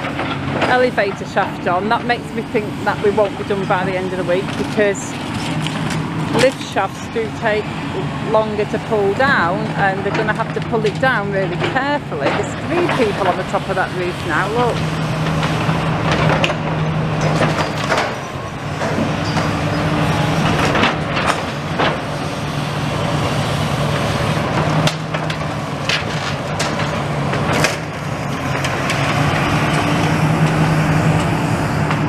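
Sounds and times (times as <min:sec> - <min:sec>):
demolition machinery humming: 0:00.0 - 0:32.0
masonry cracking and crunching: 0:00.0 - 0:32.0.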